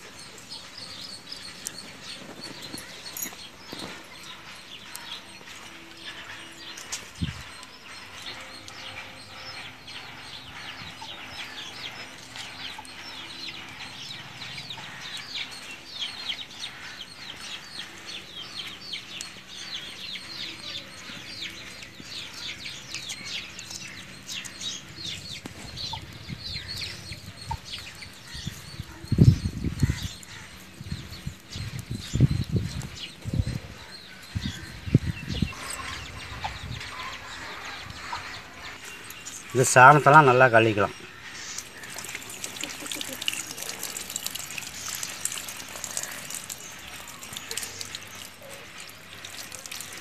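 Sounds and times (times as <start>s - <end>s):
birds chirping rapidly: 0.0s - 50.0s.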